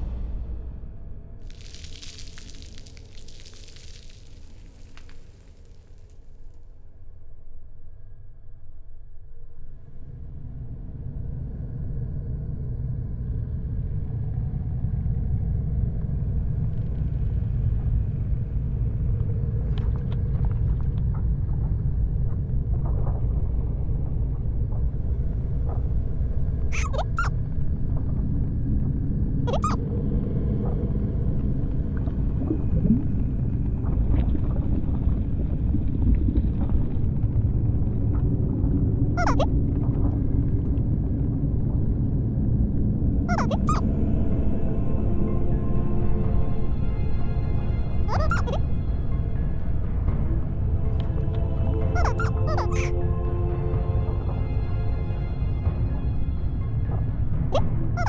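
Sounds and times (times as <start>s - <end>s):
deep rumbling drone: 0.0s - 58.0s.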